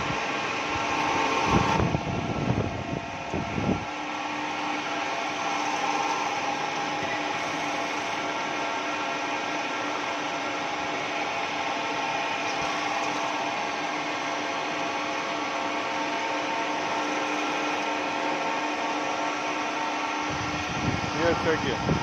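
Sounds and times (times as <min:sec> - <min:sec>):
machine hum and hiss: 0:00.0 - 0:22.0.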